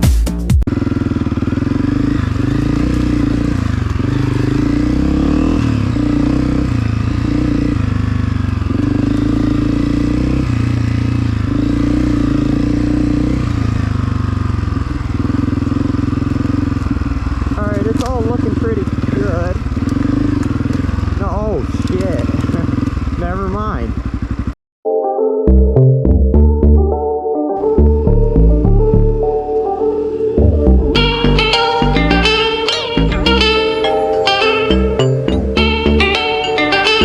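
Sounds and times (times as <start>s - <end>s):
dirt bike engine revving: 0.7s - 24.6s, 27.7s - 37.0s.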